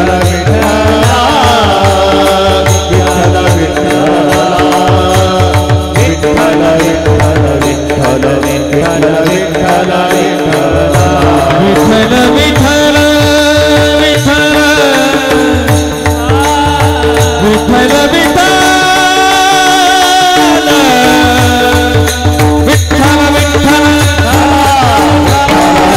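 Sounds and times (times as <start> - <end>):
drum beat: 0.0 - 25.9
group singing devotional song: 0.0 - 25.9.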